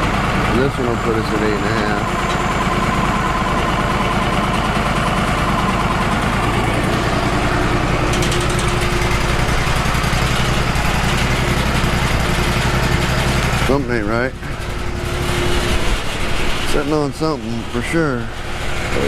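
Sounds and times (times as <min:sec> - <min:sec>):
band sawmill engine drone: 0:00.0 - 0:19.0.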